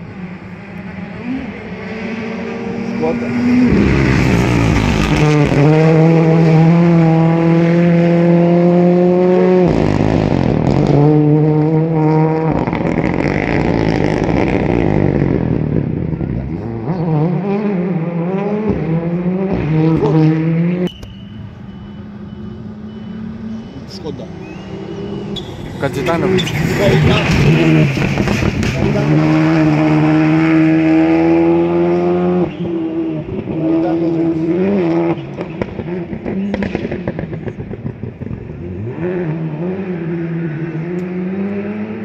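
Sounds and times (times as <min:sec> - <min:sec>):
rally car engine revving: 0:00.0 - 0:20.9, 0:22.2 - 0:42.0.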